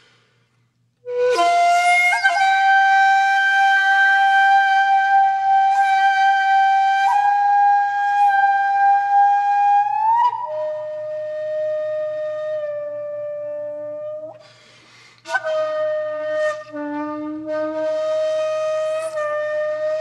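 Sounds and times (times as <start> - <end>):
solo flute playing: 1.0 - 14.6, 15.3 - 20.0.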